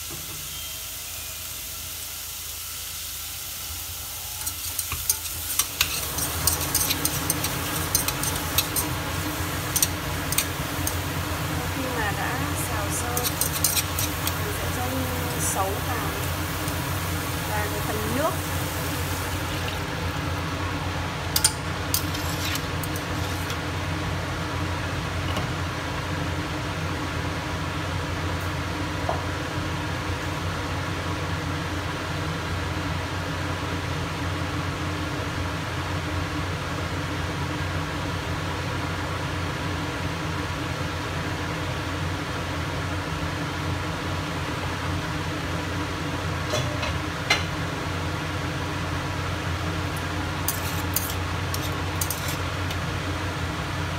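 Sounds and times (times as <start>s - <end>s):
kitchen fan humming: 0.0s - 53.9s.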